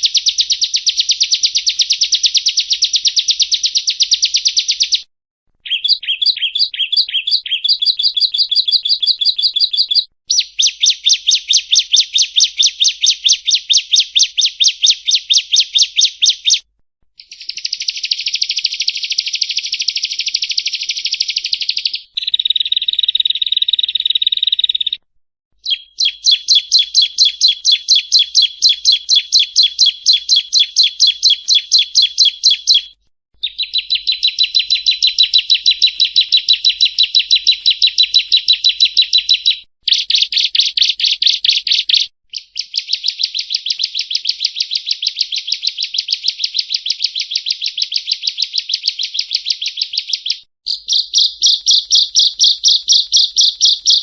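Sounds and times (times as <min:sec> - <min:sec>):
bird singing chirping notes: 0:00.0 - 0:25.0, 0:25.6 - 0:54.0.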